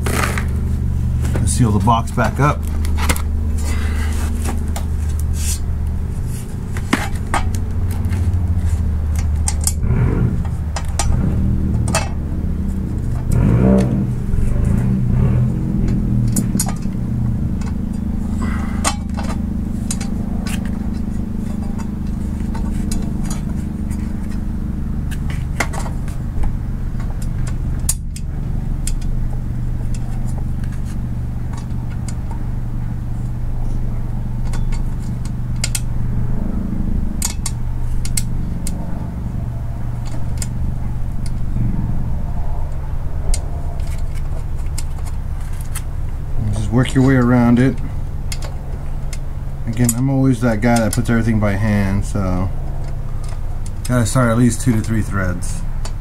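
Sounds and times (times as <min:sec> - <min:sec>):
steady low drone: 0:00.0 - 0:56.0.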